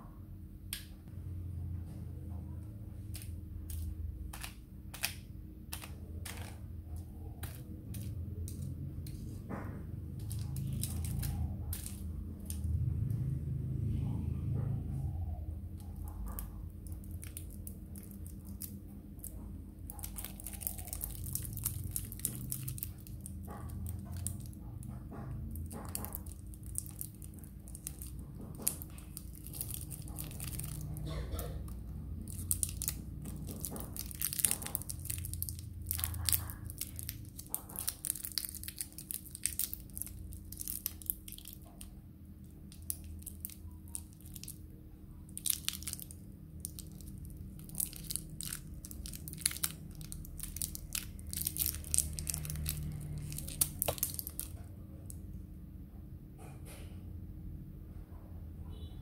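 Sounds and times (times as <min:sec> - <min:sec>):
cellophane wrapper crackling: 0:03.0 - 0:09.4, 0:10.1 - 0:12.7, 0:15.8 - 0:55.2.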